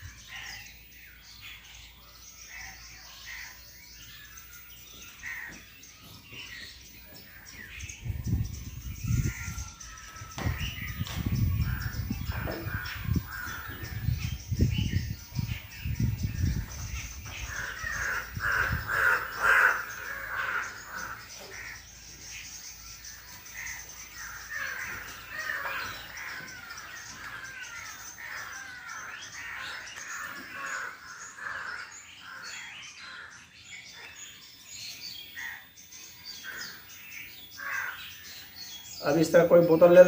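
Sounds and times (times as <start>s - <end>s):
birds calling and chirping: 0.0s - 40.0s.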